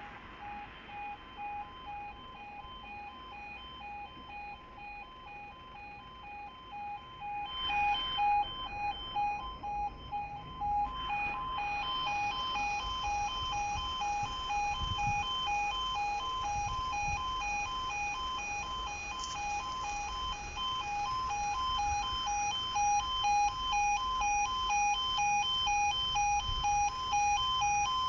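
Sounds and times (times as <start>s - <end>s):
pulsing electronic alarm beeps: 0.0s - 28.0s.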